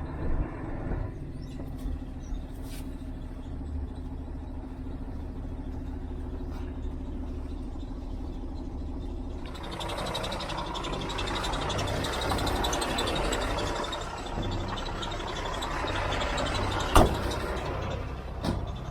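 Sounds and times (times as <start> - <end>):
truck diesel engine idling: 0.0 - 18.9.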